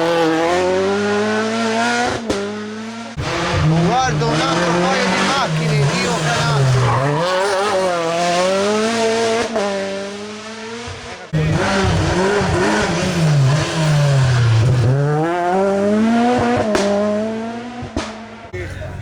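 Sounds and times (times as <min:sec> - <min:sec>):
rally car braking and accelerating: 0:00.0 - 0:19.0
rally car engine driving away: 0:00.0 - 0:19.0.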